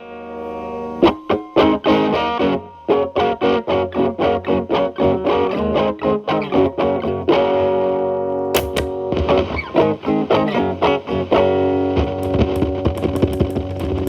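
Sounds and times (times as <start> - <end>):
distorted electric guitar: 0.0 - 14.0.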